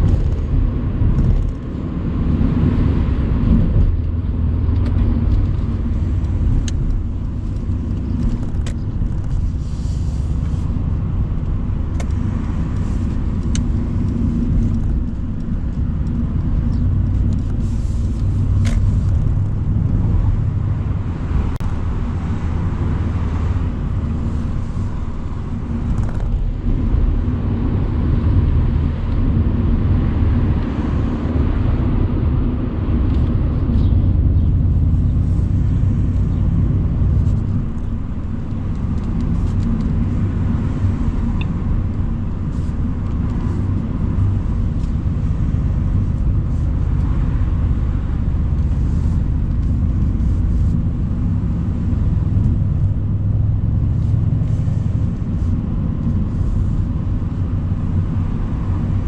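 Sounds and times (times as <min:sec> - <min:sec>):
car engine droning: 0:00.0 - 0:59.0
road and wind noise: 0:00.0 - 0:59.0.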